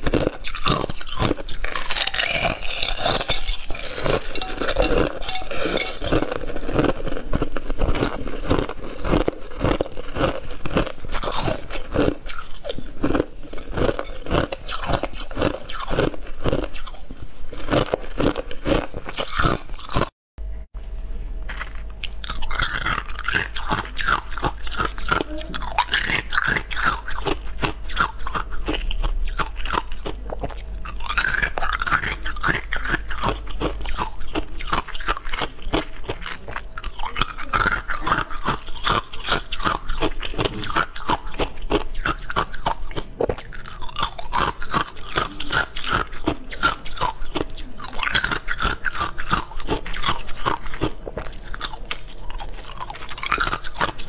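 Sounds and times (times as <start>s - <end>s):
ice cubes crunching between teeth: 0.0s - 20.1s, 21.5s - 54.0s.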